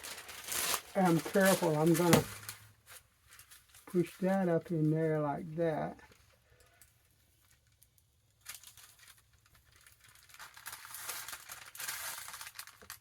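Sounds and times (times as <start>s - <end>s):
paper rustling and crinkling: 0.0s - 5.2s, 5.9s - 13.0s.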